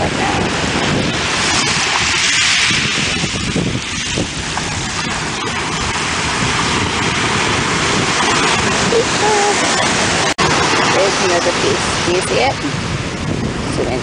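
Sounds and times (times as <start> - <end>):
surf on pebbly beach: 0.0 - 14.0
wind noise on microphone: 0.0 - 14.0.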